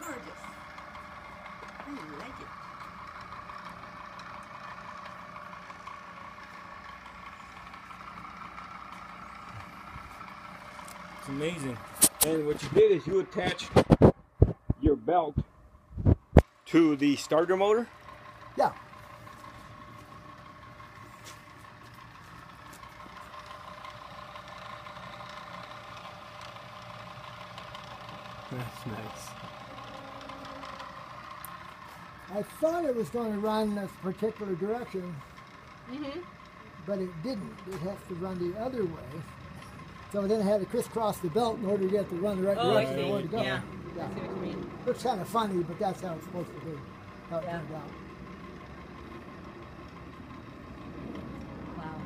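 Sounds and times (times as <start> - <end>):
engine mechanical whir: 0.0 - 52.0.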